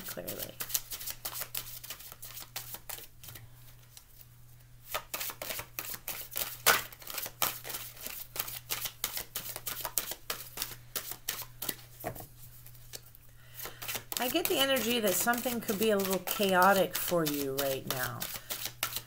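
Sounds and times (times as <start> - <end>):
cards being shuffled by hand: 0.0 - 4.3, 4.9 - 19.0.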